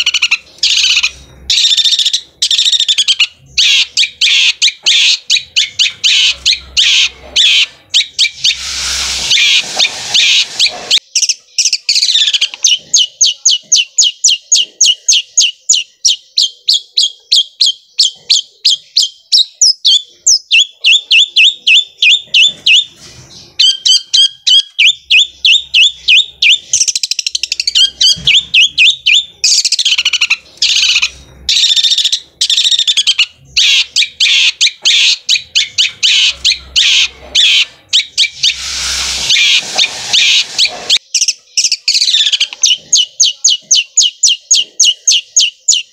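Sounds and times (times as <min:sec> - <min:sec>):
bird singing rapid repeated notes: 0:00.0 - 0:45.9.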